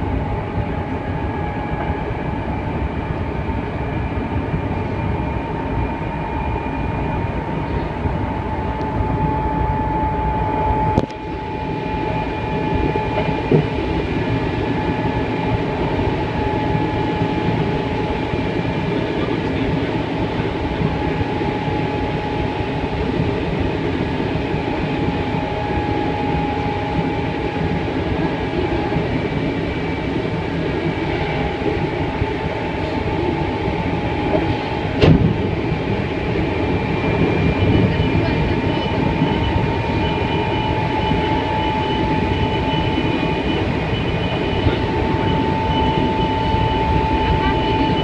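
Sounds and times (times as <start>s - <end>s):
oncoming train passing: 0.0s - 48.0s
train wheels rumbling on rail: 0.0s - 48.0s.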